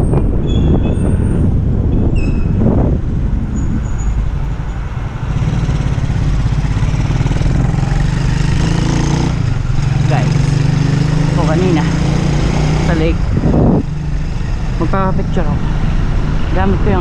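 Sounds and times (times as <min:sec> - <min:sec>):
low traffic rumble: 0:00.0 - 0:17.0
vehicle engine running: 0:02.8 - 0:17.0.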